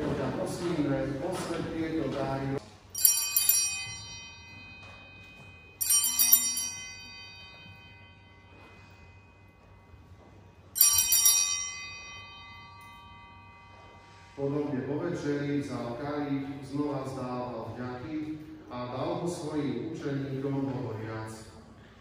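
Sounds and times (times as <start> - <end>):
altar bells jingling: 2.6 - 21.6.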